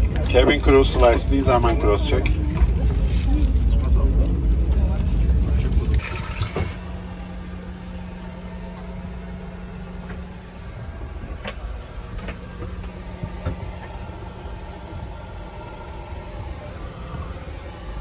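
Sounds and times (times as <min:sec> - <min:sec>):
aircraft cabin hum: 0:00.0 - 0:18.0
loud low rumble: 0:00.0 - 0:18.0.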